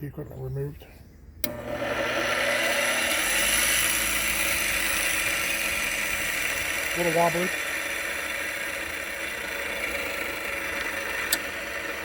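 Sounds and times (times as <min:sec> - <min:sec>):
bench grinder motor whine: 0:01.4 - 0:12.0.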